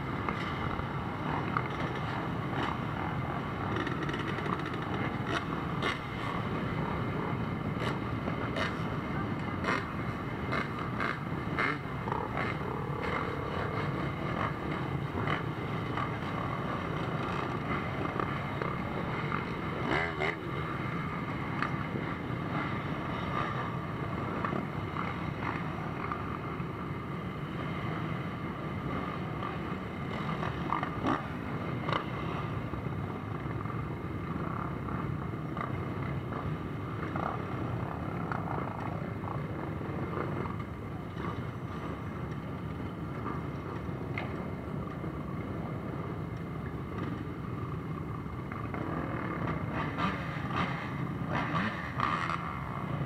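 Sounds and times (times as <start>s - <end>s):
motorcycle engines riding past: 0.0s - 53.0s
quad bike engines: 0.0s - 53.0s.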